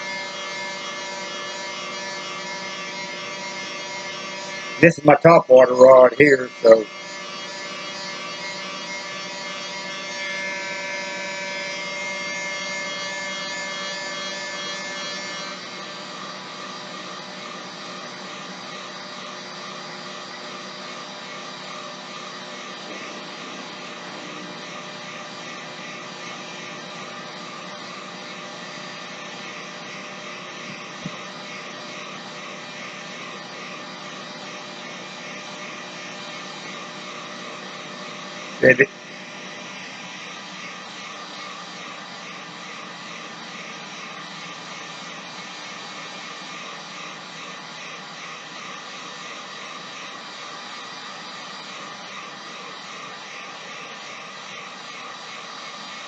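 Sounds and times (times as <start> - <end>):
heat gun fan whine: 0.0 - 56.0.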